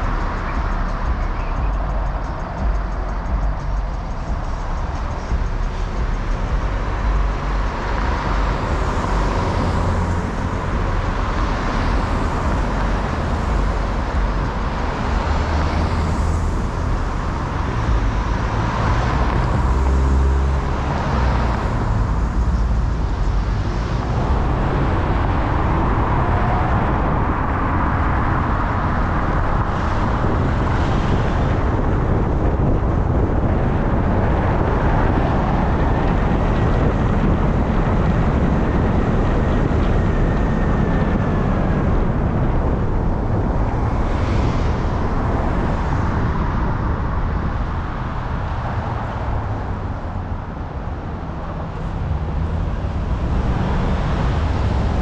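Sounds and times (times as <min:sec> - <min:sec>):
road traffic: 0:00.0 - 0:55.0
vehicles passing: 0:00.0 - 0:55.0.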